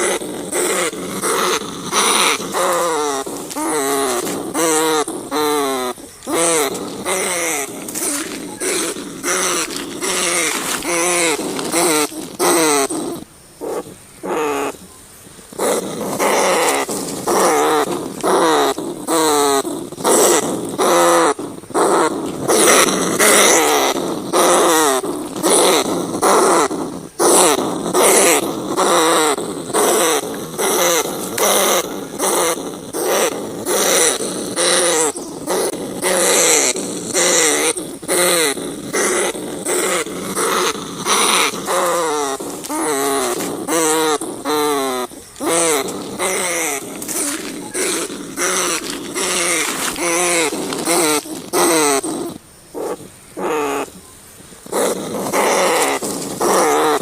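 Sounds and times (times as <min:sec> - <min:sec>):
rats squeaking and chittering: 0:00.0 - 0:54.0, 0:54.6 - 0:57.0.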